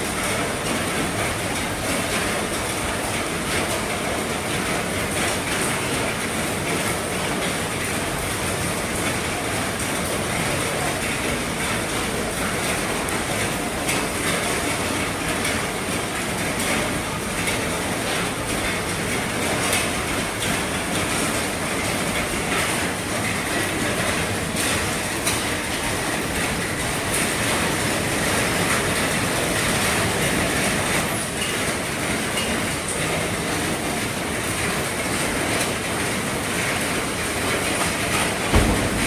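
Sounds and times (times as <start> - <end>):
heavy rain on a roof: 0.0 - 39.0.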